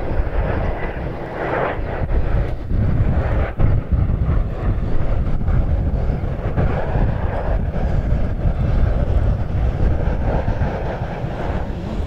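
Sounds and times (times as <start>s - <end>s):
jet aircraft flying past: 0.0s - 12.0s
wind buffeting microphone: 0.0s - 12.0s.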